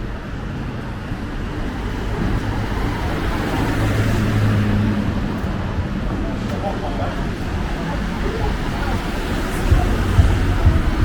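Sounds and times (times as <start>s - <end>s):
street traffic: 0.0s - 11.0s
vehicle engine hum passing: 0.0s - 11.0s.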